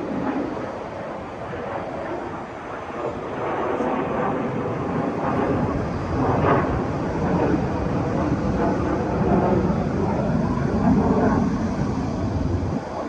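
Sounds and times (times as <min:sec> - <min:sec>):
aircraft engine: 0:00.0 - 0:13.0.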